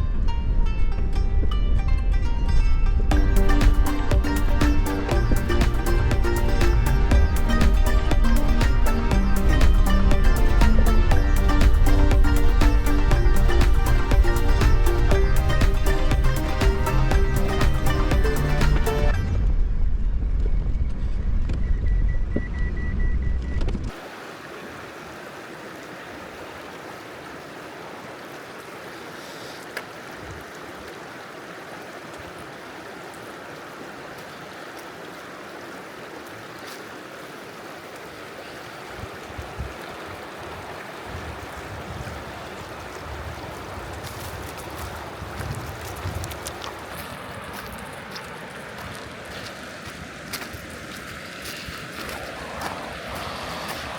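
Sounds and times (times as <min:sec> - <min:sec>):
river flowing and rushing: 0:00.0 - 0:19.4, 0:23.9 - 0:53.9.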